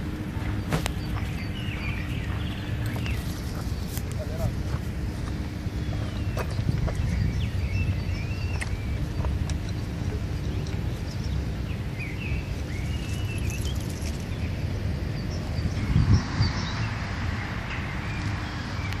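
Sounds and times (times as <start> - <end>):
low rumbling background: 0.0 - 19.0
small birds chirping: 0.0 - 19.0.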